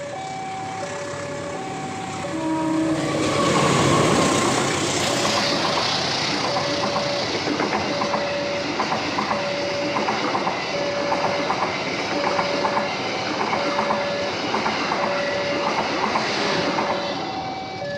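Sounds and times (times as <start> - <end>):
level-crossing warning tone: 0.0 - 17.9
train wheels clickety-clack: 3.0 - 17.9.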